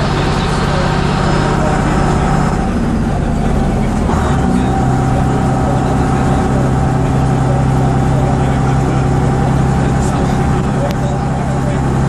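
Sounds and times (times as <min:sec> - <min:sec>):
diesel coach engine running: 0:00.0 - 0:12.0.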